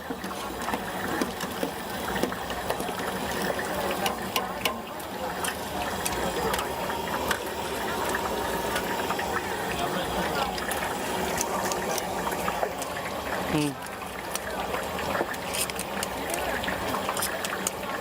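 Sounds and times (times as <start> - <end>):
oil sizzling and crackling: 0.0 - 18.0.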